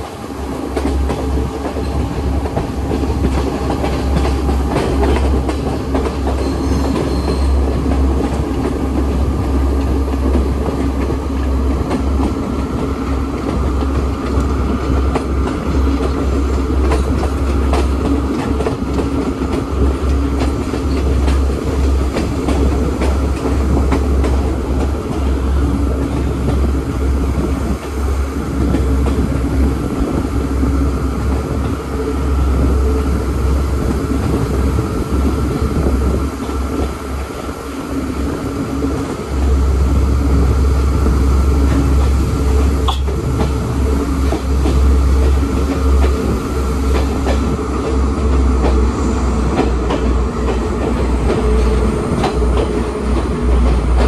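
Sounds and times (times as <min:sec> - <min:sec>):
train wheels rumbling and rattling: 0:00.0 - 0:54.0.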